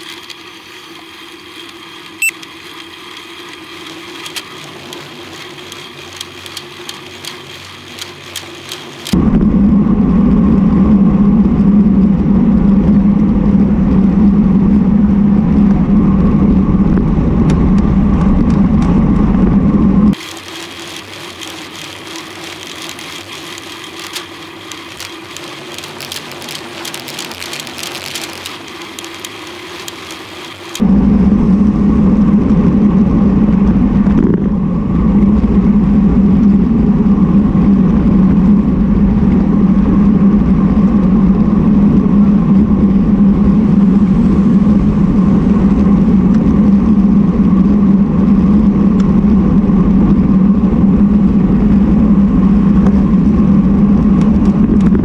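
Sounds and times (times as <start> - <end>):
bicycle tyre and road noise: 0.0 - 55.0
wind rushing over microphone: 3.3 - 20.4, 21.0 - 55.0
heavy low rumble: 3.4 - 20.2, 21.0 - 55.0.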